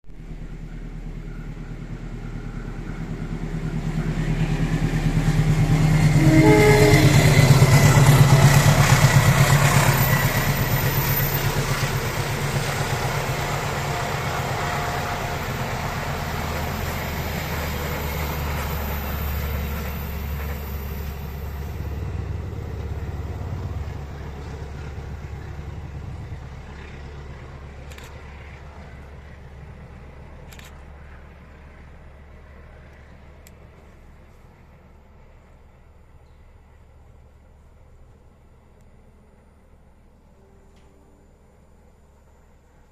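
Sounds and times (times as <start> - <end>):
diesel locomotive passing: 0.1 - 42.9
rhythmic clatter of train wheels: 0.2 - 42.9.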